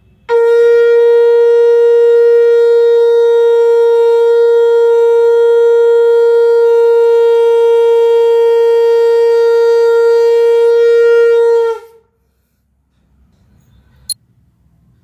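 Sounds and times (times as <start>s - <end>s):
conch shell blown: 0.1s - 12.2s.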